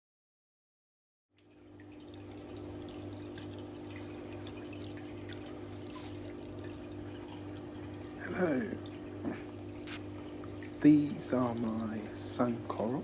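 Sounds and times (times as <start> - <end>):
water trickling: 1.3 - 13.0
aquarium pump hum: 1.4 - 13.0.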